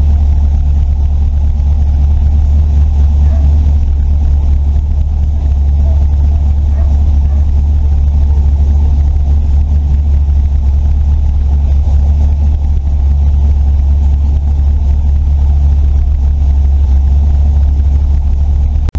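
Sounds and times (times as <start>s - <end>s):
loud car engine idling: 0.0s - 18.9s.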